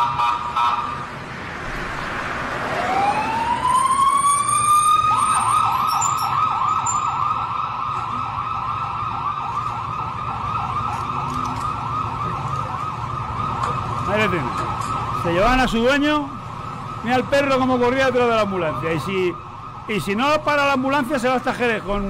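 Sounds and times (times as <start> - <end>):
ambulance siren wailing and yelping: 2.6 - 22.0.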